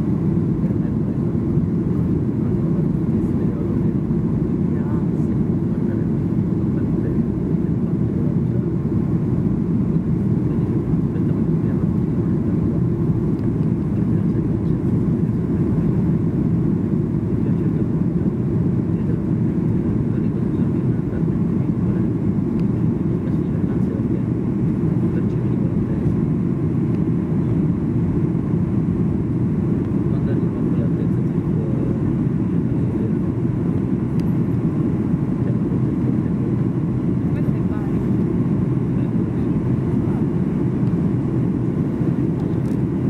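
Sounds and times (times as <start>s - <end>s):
airliner engines rumbling: 0.0s - 43.0s.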